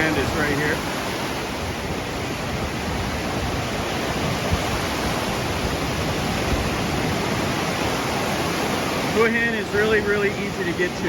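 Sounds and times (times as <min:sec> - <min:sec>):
sea washing up beach: 0:00.0 - 0:11.0.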